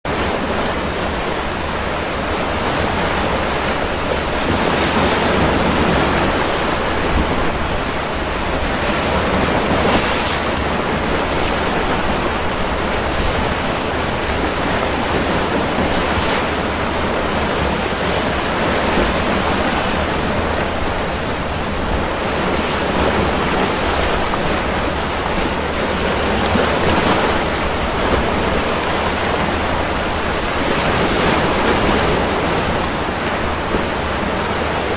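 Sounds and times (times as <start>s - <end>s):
rough sea waves breaking: 0.1s - 34.9s.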